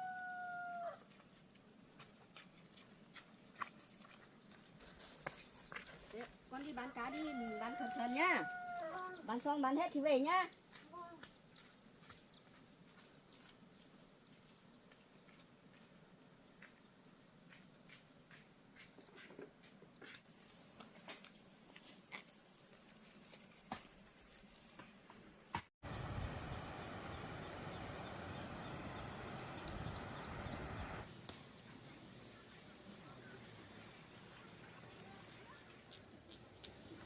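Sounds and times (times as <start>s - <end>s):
outdoor background noise: 0.0s - 37.0s.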